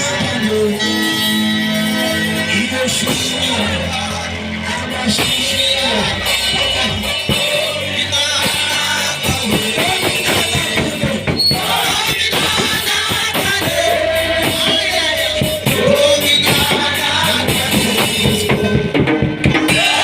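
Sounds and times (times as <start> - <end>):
band with drums and guitar: 0.0 - 20.0
voices singing: 0.0 - 20.0.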